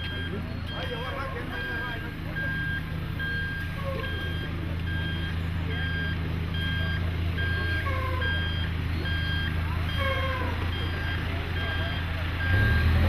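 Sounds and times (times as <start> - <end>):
reversing alarm beeping: 0.0 - 13.0
vehicle engine running: 0.0 - 13.0.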